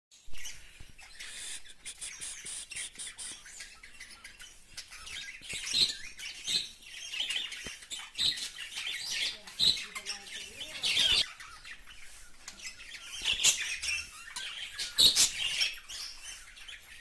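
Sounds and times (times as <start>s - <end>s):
budgerigars chattering: 0.4s - 17.0s.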